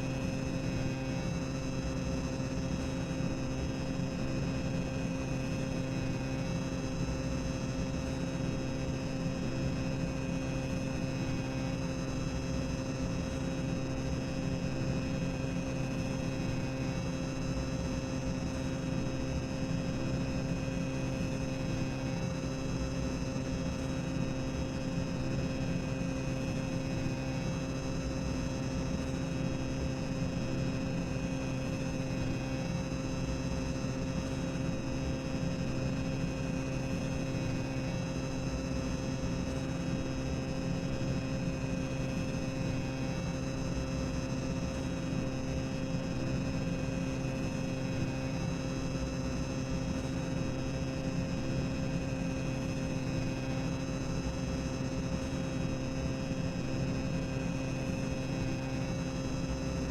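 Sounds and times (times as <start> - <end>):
machinery hum and low rumble: 0.0 - 59.9.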